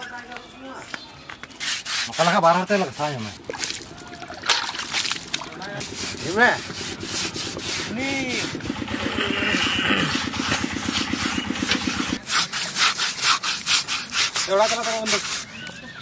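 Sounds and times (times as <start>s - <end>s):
brick scrubbing pig skin: 1.6s - 4.0s, 4.7s - 16.0s.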